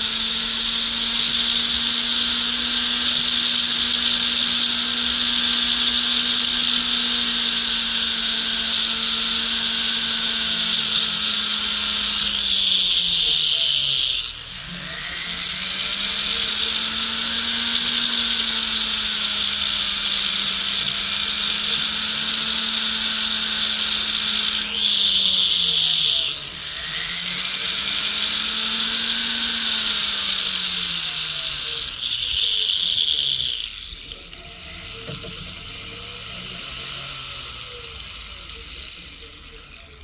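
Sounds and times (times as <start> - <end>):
rotary tool grinding metal: 0.0 - 40.0.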